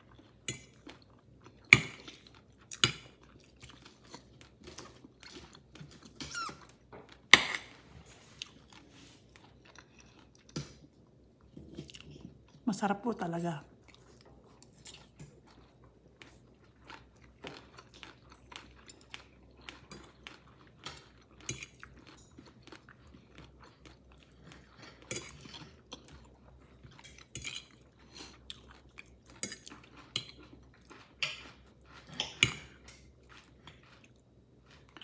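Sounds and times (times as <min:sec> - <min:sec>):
person chewing: 0:00.0 - 0:12.6, 0:13.8 - 0:35.0.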